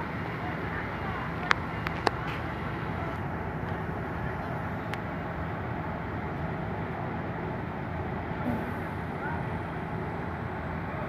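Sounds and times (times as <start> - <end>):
vehicle engines idling: 0.0 - 11.0.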